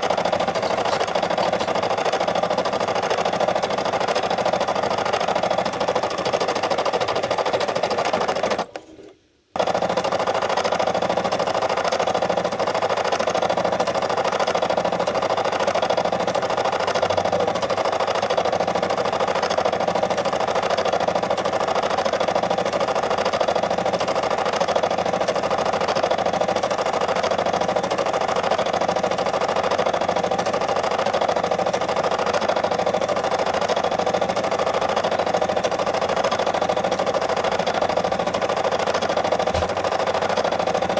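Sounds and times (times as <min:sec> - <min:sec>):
embroidery machine needle clatter: 0:00.0 - 0:08.8, 0:09.6 - 0:40.9.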